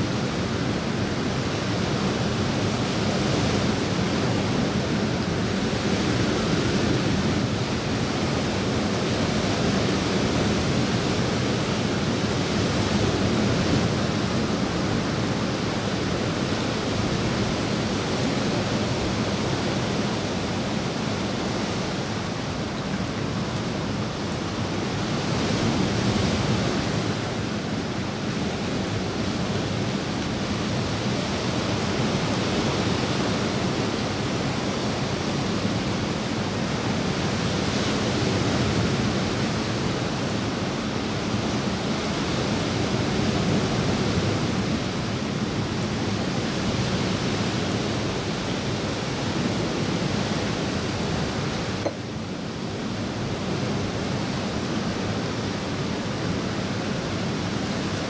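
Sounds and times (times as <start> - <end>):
rain falling on pool and leaves: 0.0 - 58.0.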